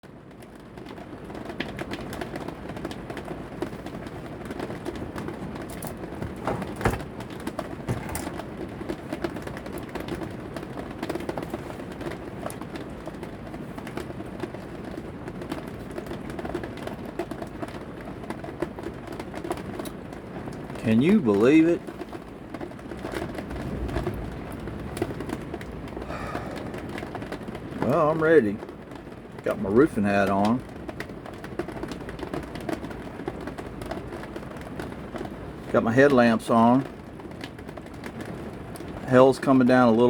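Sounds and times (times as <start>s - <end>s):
rain and hail on a trailer roof: 0.0s - 40.0s.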